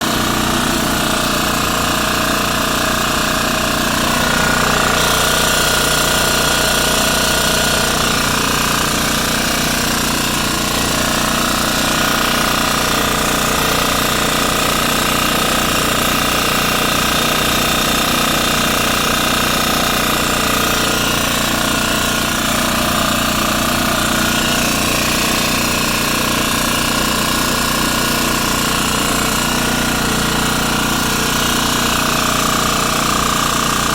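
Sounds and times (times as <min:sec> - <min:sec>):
machine running with whining tones: 0:00.0 - 0:33.9.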